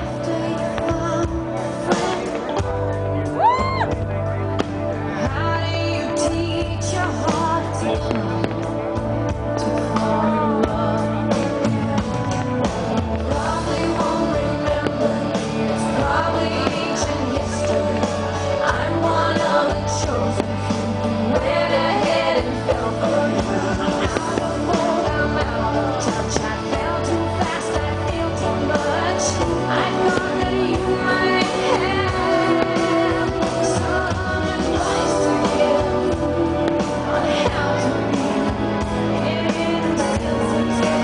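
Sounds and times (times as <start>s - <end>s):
song with singing and band: 0.0s - 41.0s.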